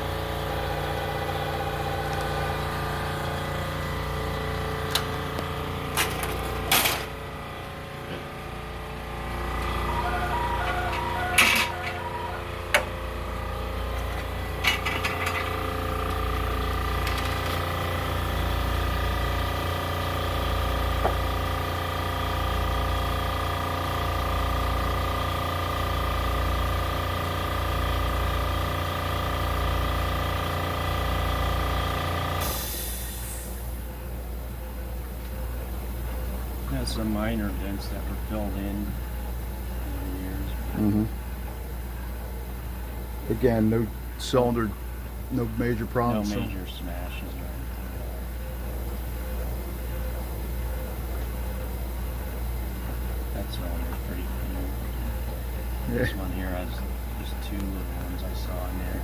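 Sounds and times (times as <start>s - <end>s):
printing press machine hum: 0.0s - 59.0s.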